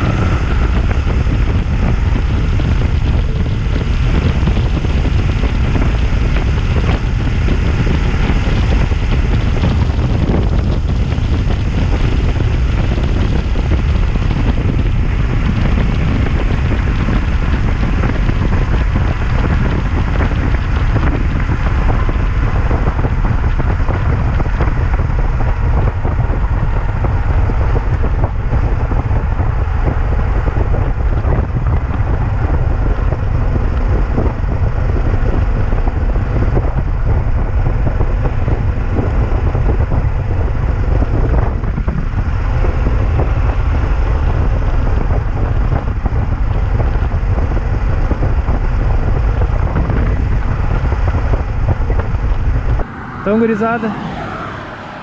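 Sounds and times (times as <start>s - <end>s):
motorcycle engine running: 0.0s - 53.8s
wind buffeting microphone: 0.0s - 55.0s.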